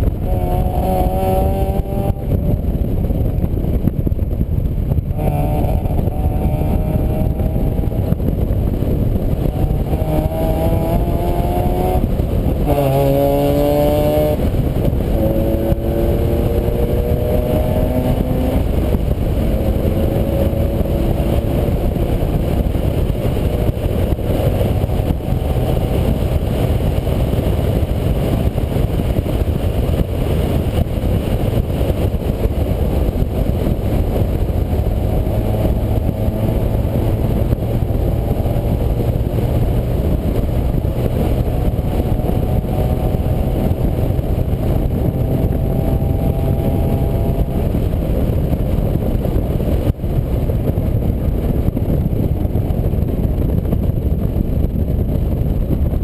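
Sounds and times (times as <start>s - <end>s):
wind and road noise rumble: 0.0s - 56.0s.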